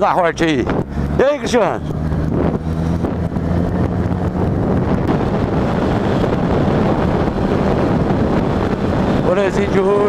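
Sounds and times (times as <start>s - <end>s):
motorcycle engine running: 0.0s - 10.0s
wind buffeting microphone: 0.0s - 10.0s.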